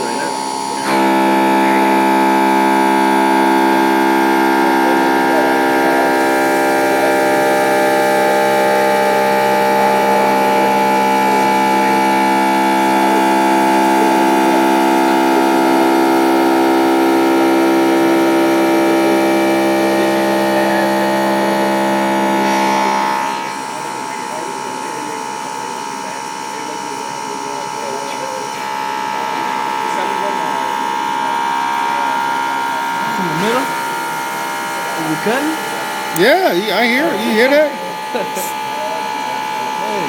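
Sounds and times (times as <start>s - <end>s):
milling machine spindle whine: 0.0s - 40.0s.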